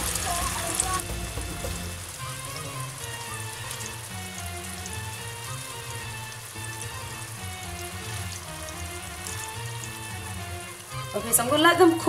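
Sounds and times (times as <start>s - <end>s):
background music: 0.0s - 12.0s
patties sizzling in hot oil: 0.0s - 12.0s.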